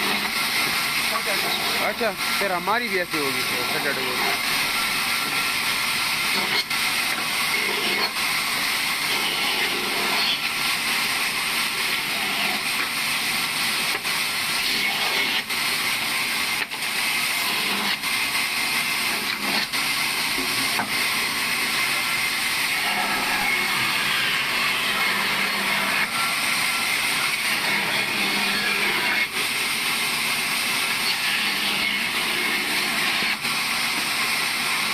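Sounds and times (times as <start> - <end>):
sawmill machine running: 0.0 - 34.9.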